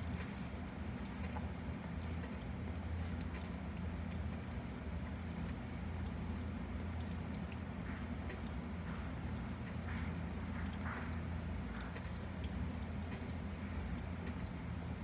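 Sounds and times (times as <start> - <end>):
crab clicking while chewing: 0.0 - 15.0
steady low hum: 0.0 - 15.0.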